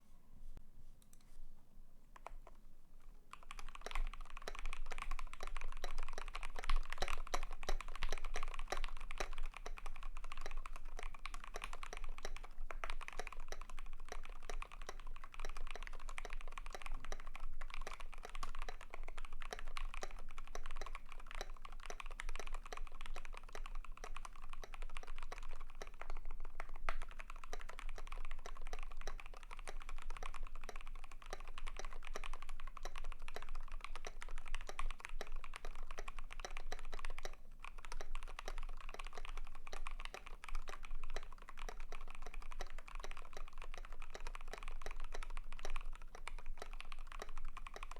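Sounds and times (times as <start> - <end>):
mechanical keyboard typing: 3.2 - 47.9.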